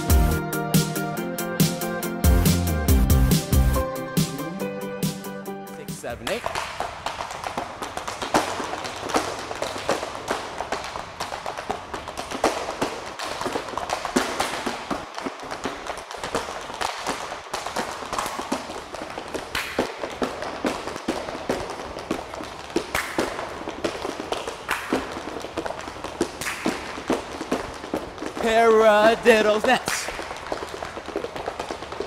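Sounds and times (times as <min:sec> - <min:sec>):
tap shoes on plywood: 0:06.3 - 0:32.0.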